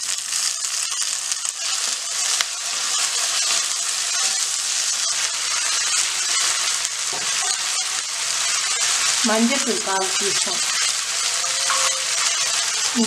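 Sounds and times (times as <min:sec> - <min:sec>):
florets sizzling in hot oil: 0:00.0 - 0:13.0.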